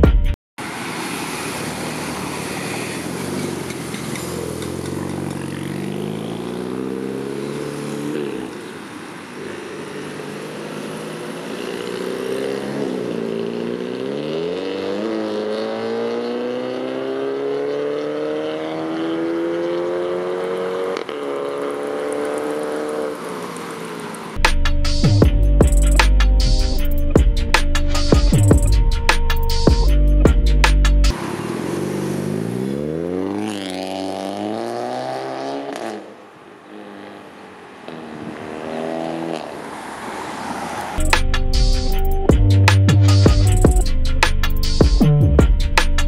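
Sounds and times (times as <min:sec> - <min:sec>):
car accelerating with loud exhaust: 0:00.7 - 0:46.0.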